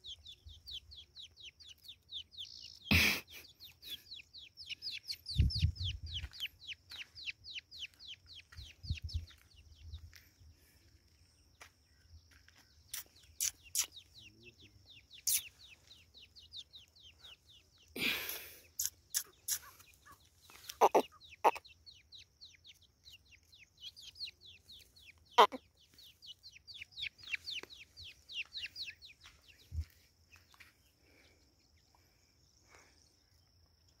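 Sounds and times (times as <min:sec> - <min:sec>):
small bird chirping: 0:00.0 - 0:34.0.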